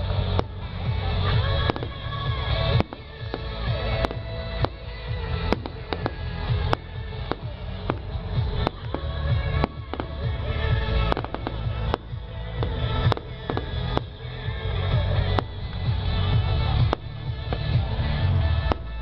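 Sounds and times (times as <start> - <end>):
fireworks bursting with bangs: 0.0 - 19.0
music: 0.0 - 19.0.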